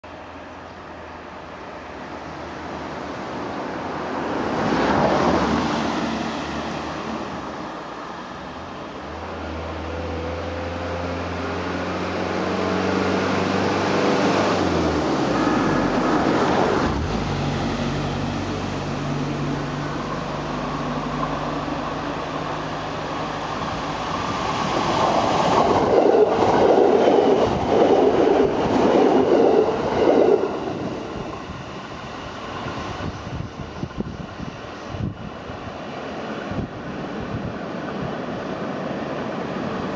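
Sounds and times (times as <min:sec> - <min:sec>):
electric train running hum: 0:03.7 - 0:39.9.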